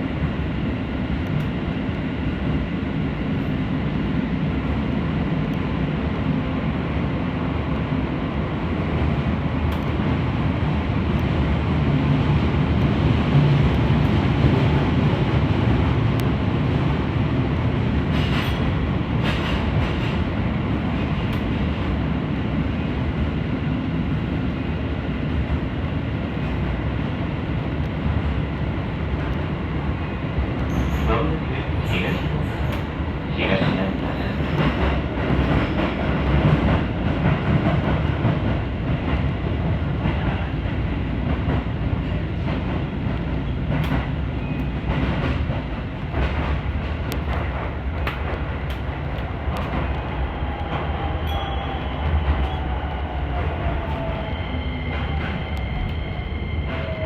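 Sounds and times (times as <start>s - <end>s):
train wheels and motors rumbling: 0.0s - 57.0s.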